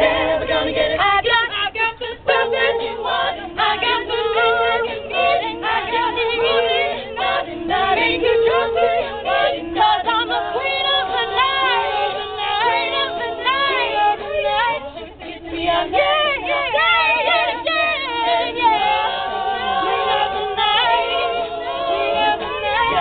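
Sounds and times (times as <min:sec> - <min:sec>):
women's a cappella group singing: 0:00.0 - 0:23.0.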